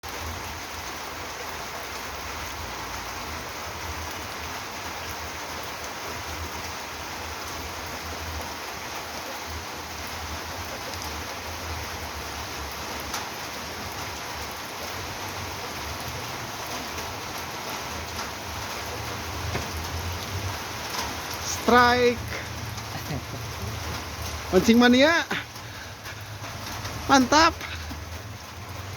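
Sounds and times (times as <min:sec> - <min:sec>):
light drizzle falling: 0:00.0 - 0:28.9
raindrops ticking on surfaces: 0:00.0 - 0:28.9.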